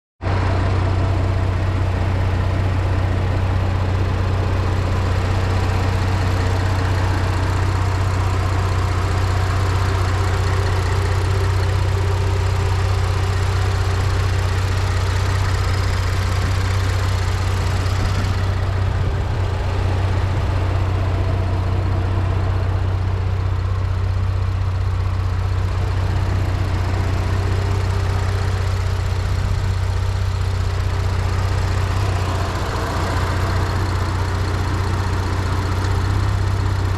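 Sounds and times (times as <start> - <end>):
car engine idling: 0.2 - 36.9.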